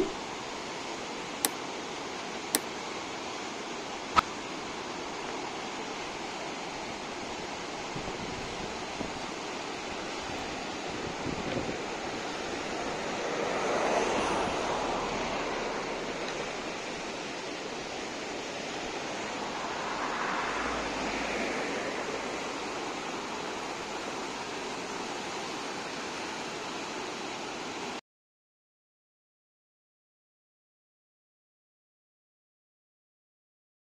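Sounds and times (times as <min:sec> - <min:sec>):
water rushing over rapids: 0:00.0 - 0:28.0.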